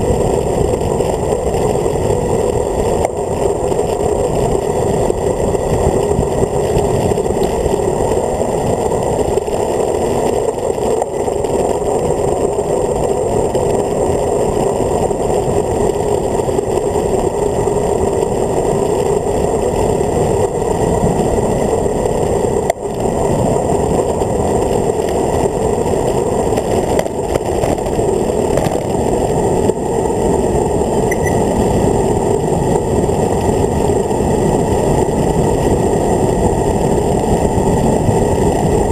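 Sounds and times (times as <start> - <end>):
tyre noise on tarmac: 0.0 - 38.9
wind rushing over microphone: 0.0 - 38.9.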